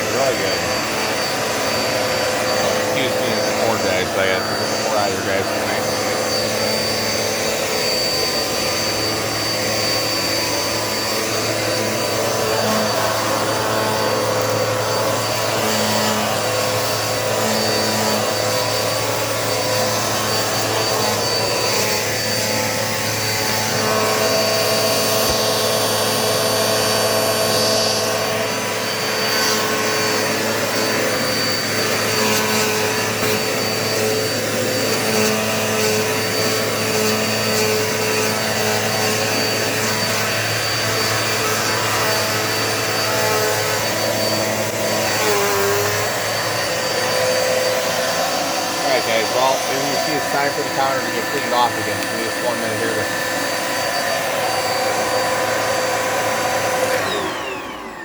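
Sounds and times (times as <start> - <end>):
vacuum cleaner motor whining: 0.0 - 58.0.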